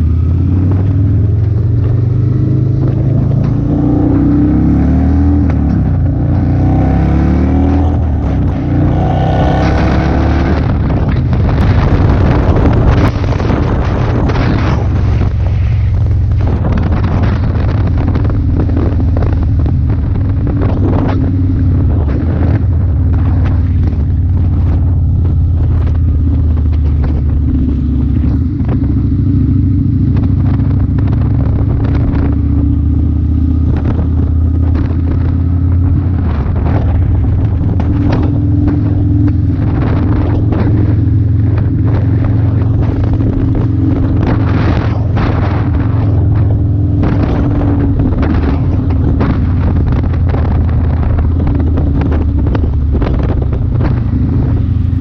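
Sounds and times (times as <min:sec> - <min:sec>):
motorcycle engine cruising: 0:00.0 - 0:55.0
wind buffeting microphone: 0:00.0 - 0:55.0.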